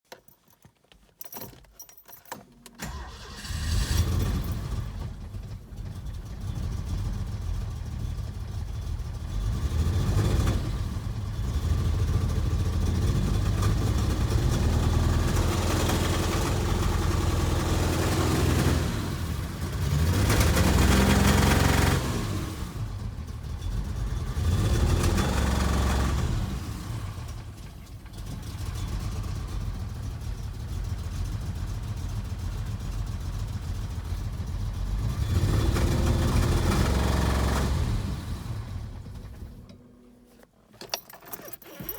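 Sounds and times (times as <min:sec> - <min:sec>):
misfiring car engine revving: 0:02.8 - 0:32.5, 0:34.4 - 0:39.2.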